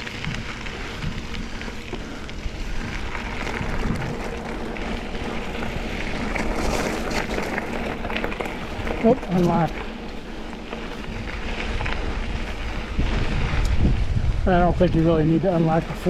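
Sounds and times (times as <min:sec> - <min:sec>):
wind on microphone: 0:00.0 - 0:10.0, 0:10.6 - 0:15.4
bike tyres on dirt trail: 0:00.0 - 0:16.0.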